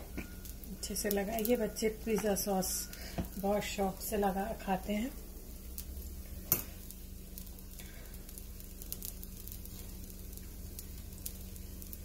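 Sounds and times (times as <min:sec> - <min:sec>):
pizza base sizzling in pan: 0:00.0 - 0:12.0.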